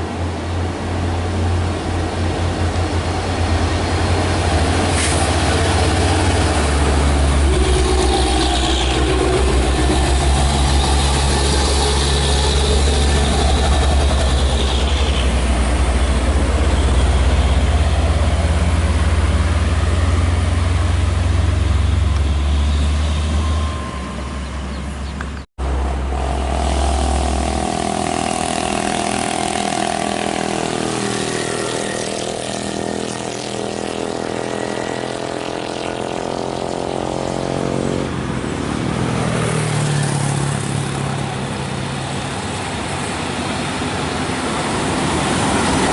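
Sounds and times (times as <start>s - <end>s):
heavy truck diesel engine labouring: 0.0s - 45.9s.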